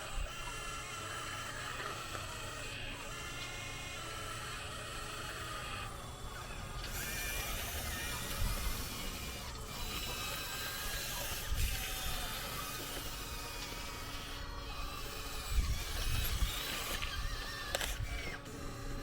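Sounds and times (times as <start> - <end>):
hydraulic pump whining: 0.0 - 19.0.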